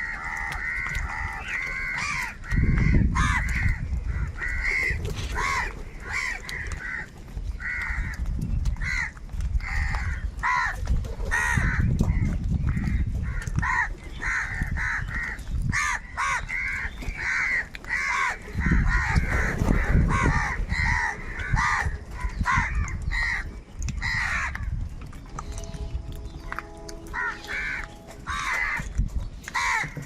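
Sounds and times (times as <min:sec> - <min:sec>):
crows cawing: 0:00.0 - 0:08.2, 0:08.8 - 0:24.8, 0:26.3 - 0:30.0.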